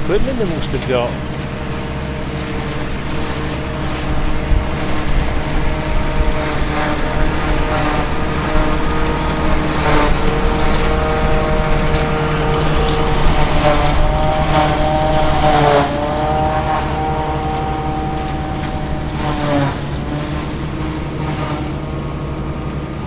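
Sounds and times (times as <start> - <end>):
tractor engine running: 0.0 - 23.0
wind on microphone: 0.0 - 23.0.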